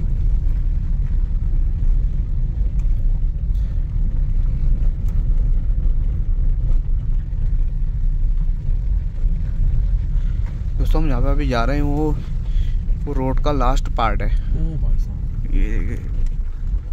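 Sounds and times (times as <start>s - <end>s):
car engine rumble: 0.0s - 16.9s
road noise: 0.0s - 16.9s.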